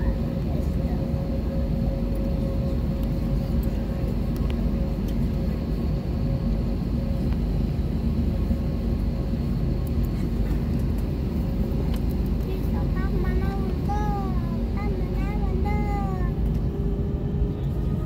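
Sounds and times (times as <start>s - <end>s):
jet engines low rumble: 0.0s - 18.0s.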